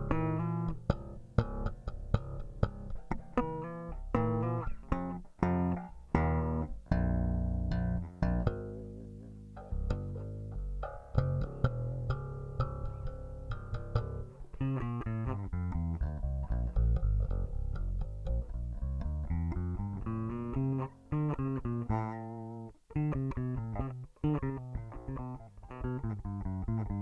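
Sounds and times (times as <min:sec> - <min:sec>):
electric string instrument plucked: 0:00.0 - 0:27.0.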